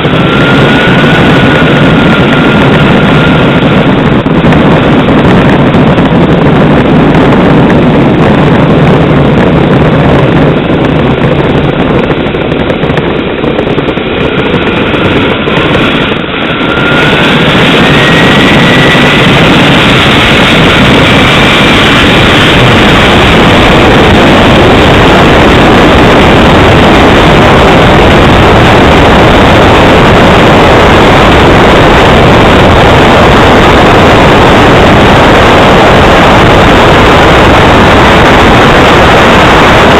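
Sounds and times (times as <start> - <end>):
model jet engine whining: 0.0 - 39.9.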